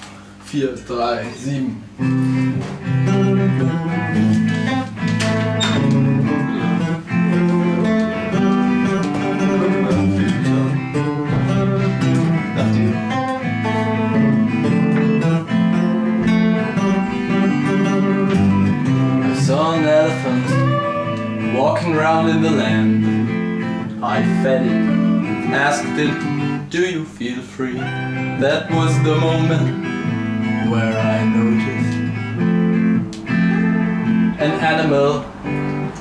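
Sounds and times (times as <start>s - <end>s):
rhythm guitar chords: 0.0s - 36.0s
lead guitar line: 0.8s - 36.0s.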